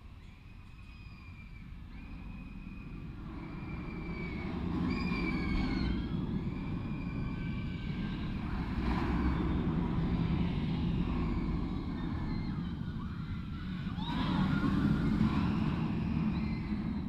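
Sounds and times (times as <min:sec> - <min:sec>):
roller coaster rumbling on track: 0:00.0 - 0:17.0
high squeals: 0:00.1 - 0:17.0.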